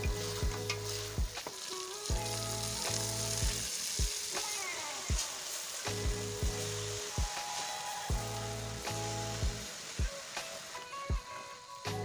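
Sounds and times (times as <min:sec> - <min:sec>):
background music with steady beat: 0:00.0 - 0:12.0
food sizzling in a pot: 0:00.0 - 0:12.0.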